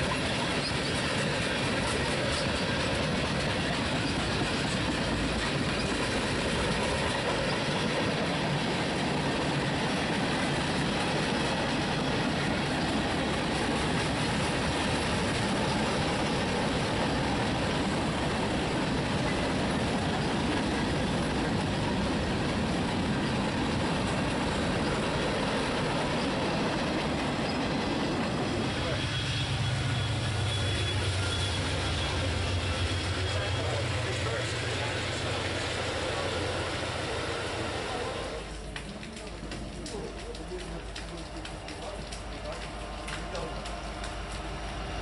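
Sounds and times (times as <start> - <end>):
freight train rolling past: 0.0 - 45.0
steel wheels rattling on rails: 0.0 - 45.0.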